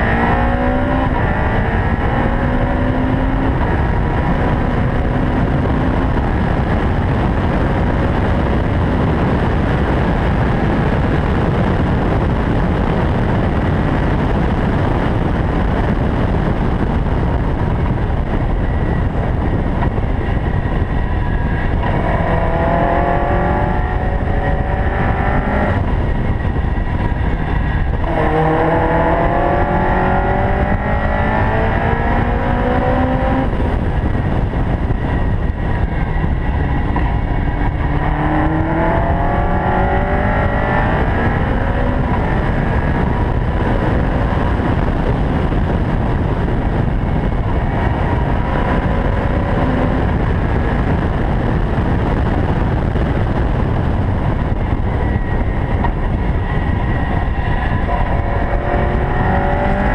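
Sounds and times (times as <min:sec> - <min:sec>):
car engine revving at speed: 0:00.0 - 0:59.9
rush of noise: 0:00.0 - 0:59.9.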